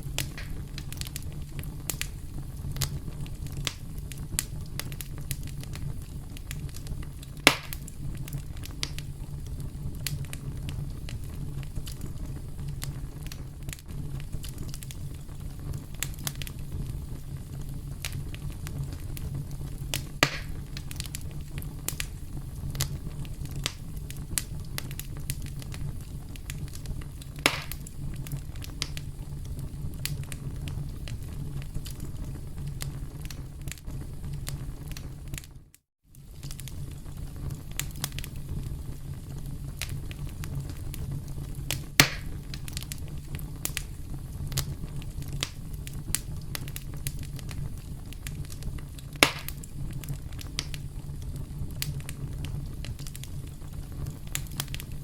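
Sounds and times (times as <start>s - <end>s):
loud fire pops: 0.0s - 55.0s
wood fire crackling: 0.0s - 55.0s.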